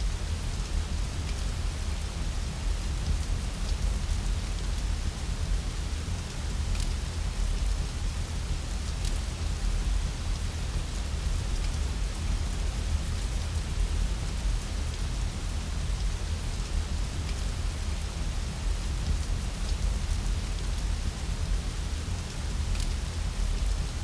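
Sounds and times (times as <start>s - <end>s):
steady rain: 0.0s - 24.0s
wood fire crackles: 0.0s - 24.0s.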